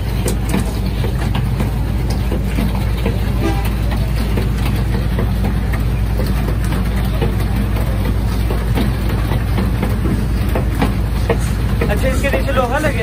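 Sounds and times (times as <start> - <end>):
faint clicks and clatter: 0.0 - 13.0
machinery humming: 0.0 - 13.0.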